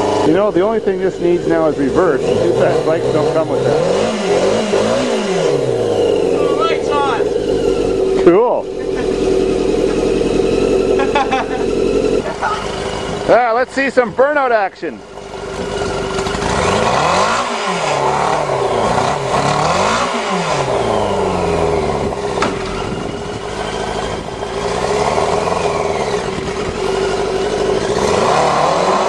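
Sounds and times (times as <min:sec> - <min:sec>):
steady whine: 0:00.0 - 0:19.4, 0:20.6 - 0:28.3
motorcycle engine revving: 0:00.0 - 0:29.0.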